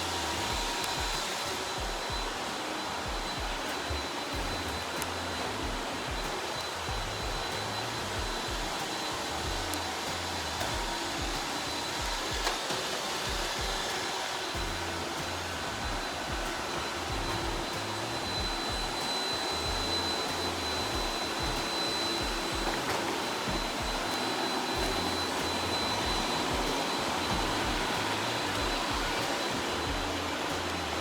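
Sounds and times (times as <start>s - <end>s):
music with bass beat: 0.0s - 12.6s, 14.6s - 22.9s, 23.5s - 31.0s
robot vacuum whirring: 0.0s - 31.0s.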